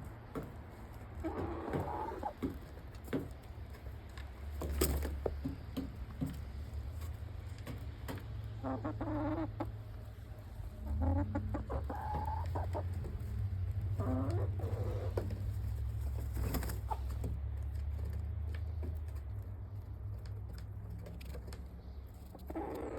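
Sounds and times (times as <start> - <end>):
chickens clucking: 0.0 - 3.8, 4.6 - 17.4, 20.4 - 22.9.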